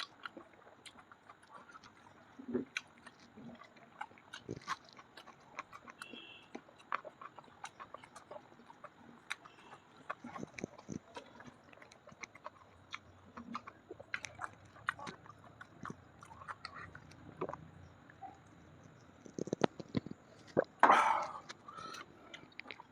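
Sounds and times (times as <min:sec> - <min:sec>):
person chewing and smacking: 0:00.0 - 0:22.9.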